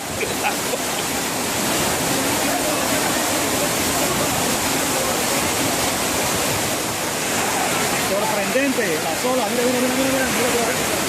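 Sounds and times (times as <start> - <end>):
rough sea surf: 0.0 - 11.0
strong wind: 0.0 - 11.0.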